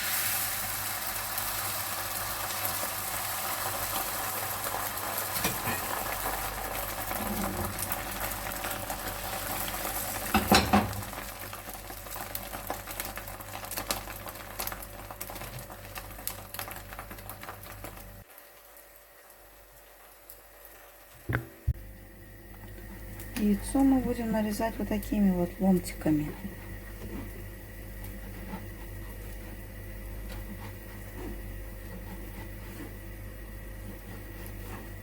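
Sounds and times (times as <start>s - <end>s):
egg sizzling in a frying pan: 0.0s - 35.0s.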